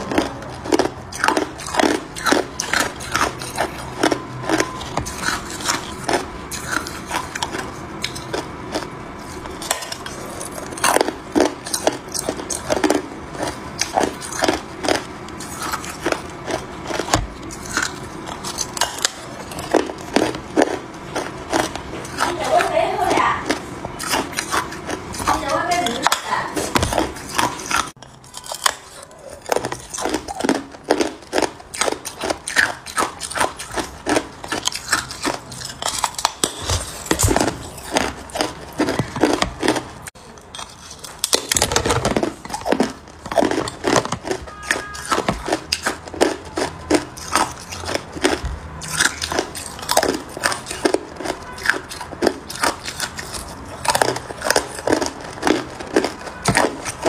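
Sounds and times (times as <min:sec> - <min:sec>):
ice being bitten and chewed: 0:00.0 - 0:57.0.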